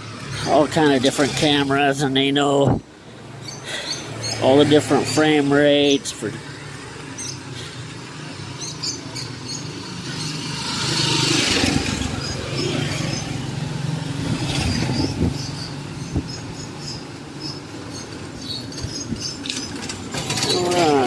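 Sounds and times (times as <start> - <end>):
vehicle passing close: 0.0 - 21.0.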